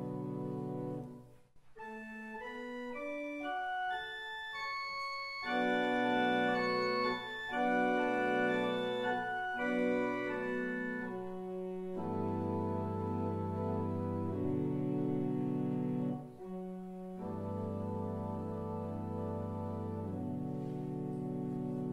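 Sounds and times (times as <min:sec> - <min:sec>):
church organ playing hymn: 0:00.0 - 0:01.2, 0:01.8 - 0:21.9.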